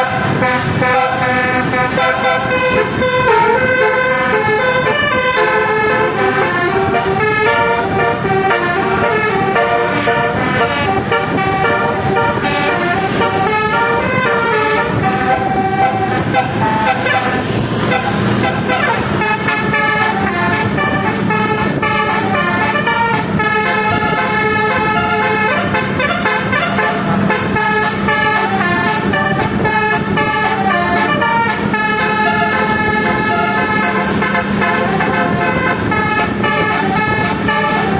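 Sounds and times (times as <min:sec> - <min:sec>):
multi-tone bus horns playing melodies: 0:00.0 - 0:37.9
vehicle noise: 0:00.0 - 0:37.9.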